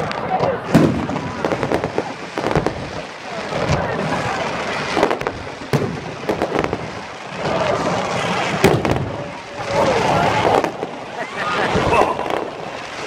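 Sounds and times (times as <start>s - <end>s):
fireworks bangs: 0.0s - 13.0s
fireworks crackling and hiss: 0.0s - 13.0s.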